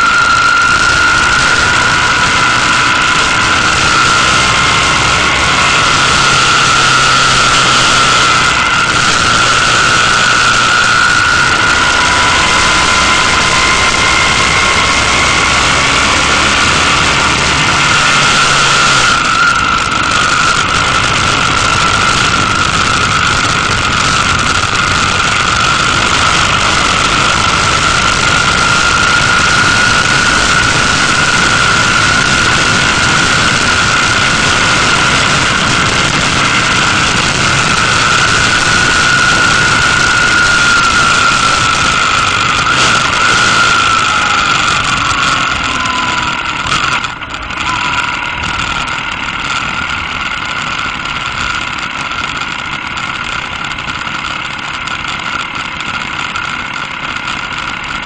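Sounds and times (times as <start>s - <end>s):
motorcycle engine whine: 0.0s - 58.0s
wind noise on microphone: 0.0s - 58.0s.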